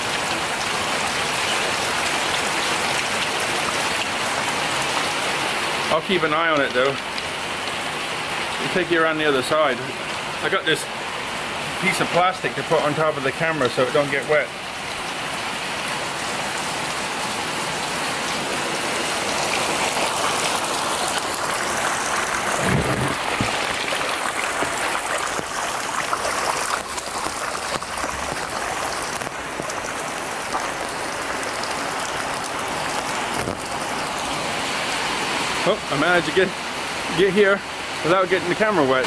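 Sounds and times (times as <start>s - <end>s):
rain pattering on plastic sheet: 0.0s - 10.6s, 11.8s - 39.0s.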